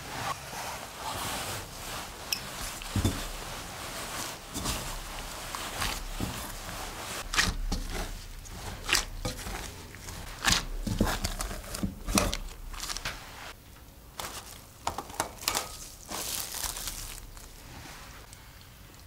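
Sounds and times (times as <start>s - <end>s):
soft rustling: 0.0s - 13.6s, 14.2s - 18.3s
hands kneading bread dough: 0.0s - 18.3s.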